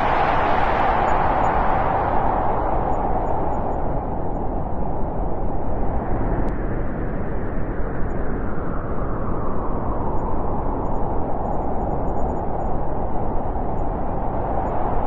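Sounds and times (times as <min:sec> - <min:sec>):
steady wind blowing: 0:00.0 - 0:15.0.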